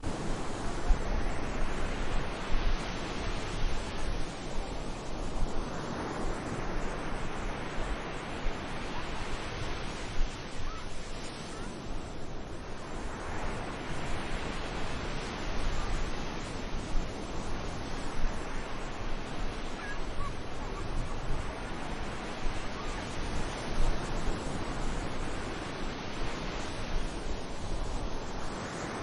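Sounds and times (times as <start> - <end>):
sea waves breaking on beach: 0.0 - 29.0.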